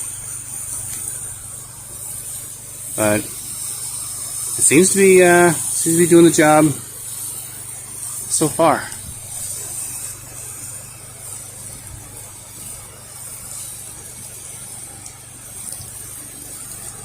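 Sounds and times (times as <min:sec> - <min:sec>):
pressure washer engine hum: 0:00.0 - 0:17.0
water spray hissing: 0:00.0 - 0:17.0.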